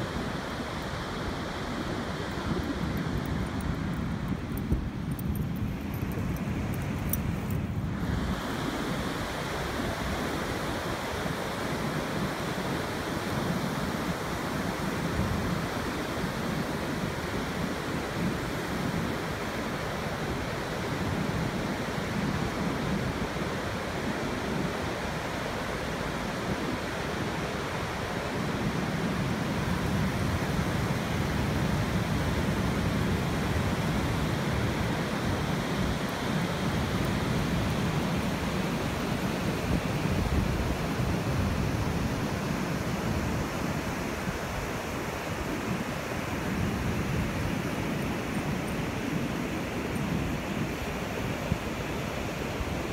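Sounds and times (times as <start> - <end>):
wind on microphone: 0.0 - 52.9.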